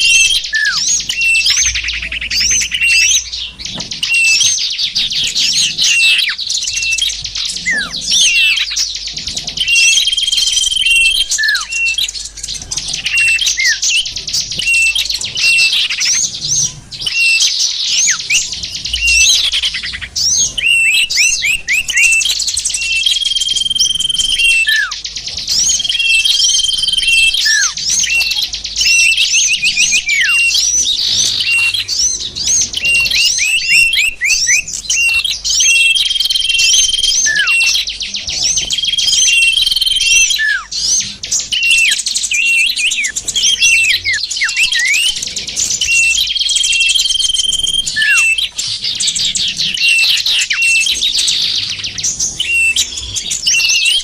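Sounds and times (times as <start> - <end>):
downward-sliding bird calls: 0.0 - 54.0
songbirds chirping and twittering: 0.0 - 54.0
whistled bird notes: 0.0 - 54.0.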